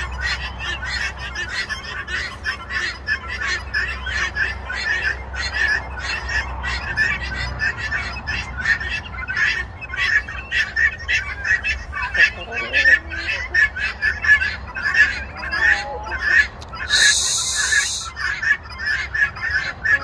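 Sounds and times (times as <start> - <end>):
birds chirping and squawking: 0.0 - 20.0.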